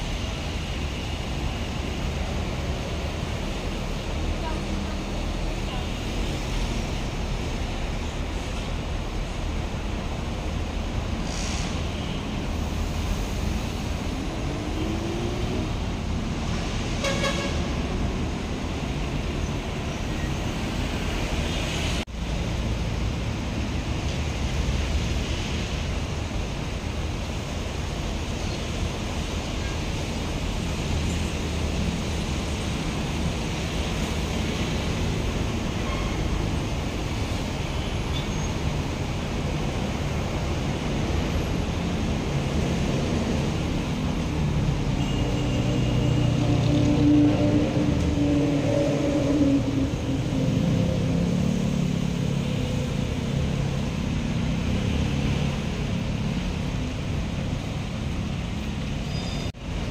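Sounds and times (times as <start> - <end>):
traffic engines rumbling: 0.0 - 59.9.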